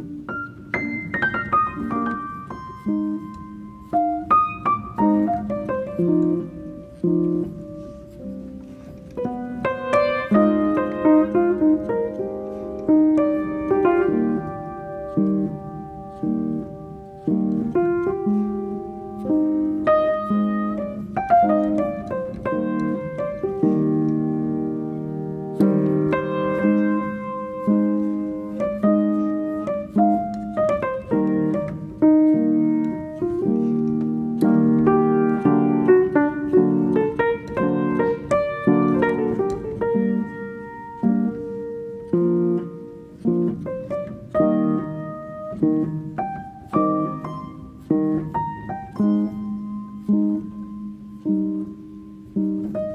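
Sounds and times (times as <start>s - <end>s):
piano music: 0.0s - 52.9s.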